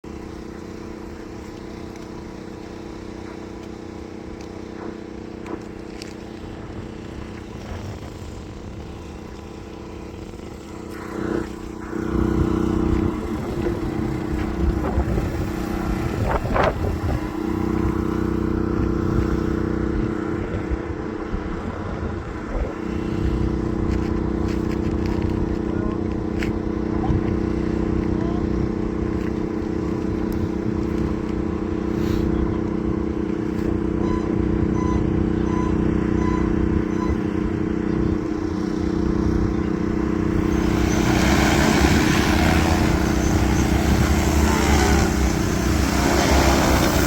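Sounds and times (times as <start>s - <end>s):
drone rotors humming: 0.0s - 47.0s.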